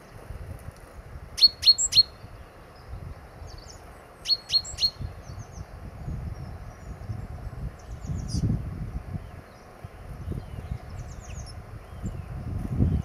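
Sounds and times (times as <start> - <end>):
faint bird chirps: 1.4 - 13.0.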